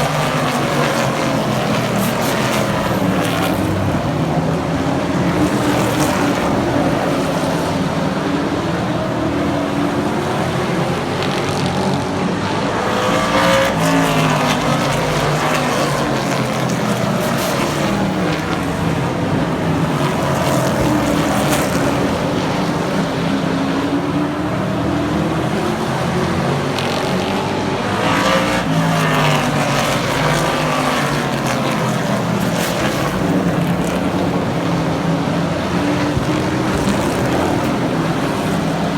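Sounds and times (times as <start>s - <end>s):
racing truck engines running hard: 0.0s - 38.9s.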